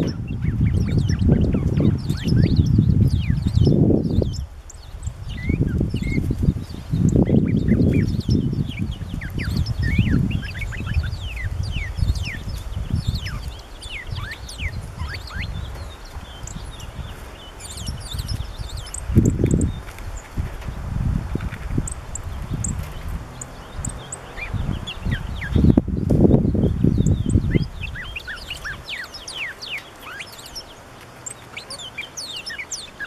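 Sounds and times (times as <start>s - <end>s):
songbirds chip calls: 0.0s - 33.0s.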